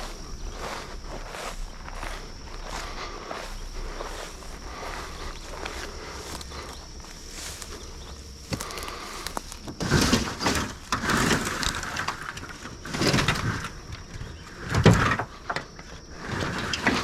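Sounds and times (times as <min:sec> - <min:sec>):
crunching in dry leaves: 0:00.0 - 0:14.7
faint high insect hum: 0:00.0 - 0:17.0.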